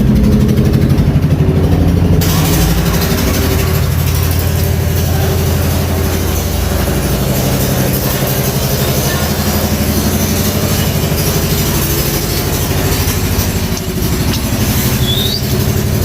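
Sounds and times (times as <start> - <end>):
diesel engine throbbing: 0.0 - 16.0.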